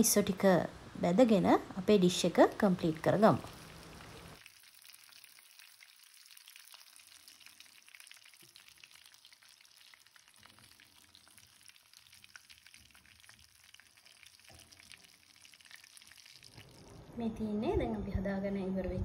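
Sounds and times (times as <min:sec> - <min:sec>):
food sizzling in hot oil: 0:01.8 - 0:17.1.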